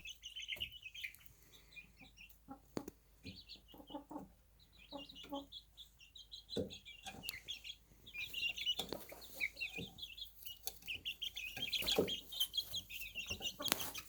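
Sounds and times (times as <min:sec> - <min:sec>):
baby chicks peeping: 0:00.0 - 0:14.0
soft clucks: 0:02.0 - 0:05.7, 0:06.4 - 0:14.0.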